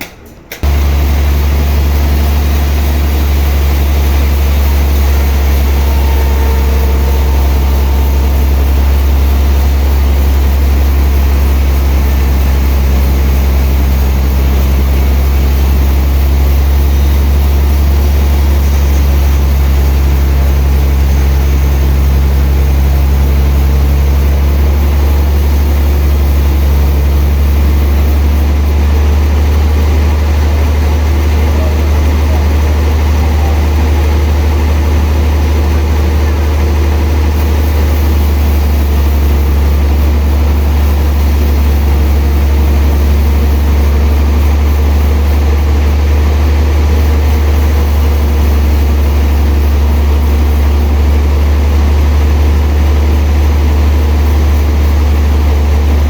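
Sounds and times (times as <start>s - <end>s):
sawmill machinery droning: 0.6s - 56.0s.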